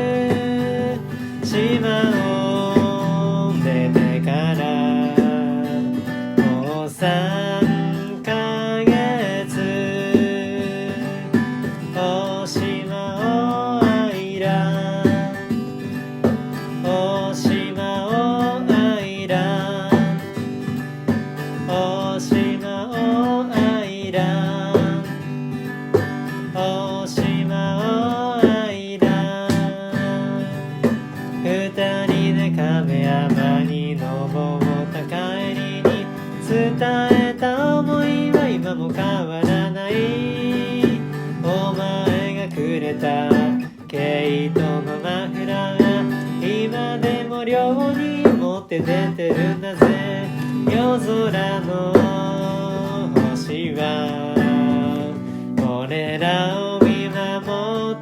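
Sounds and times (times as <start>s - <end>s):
acoustic guitar strummed chords: 0.0s - 58.0s
bending guitar melody: 0.0s - 58.0s.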